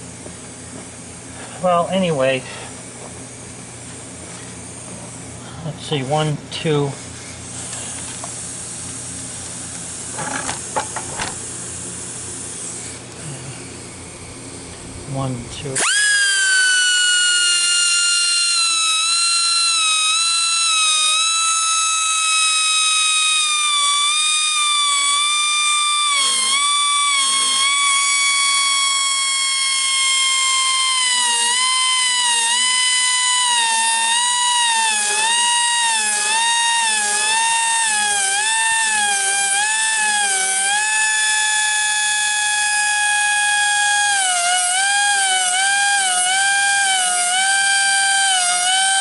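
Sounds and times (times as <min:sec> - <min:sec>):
air-powered grinder hissing: 0:05.9 - 0:14.0, 0:15.1 - 0:49.0.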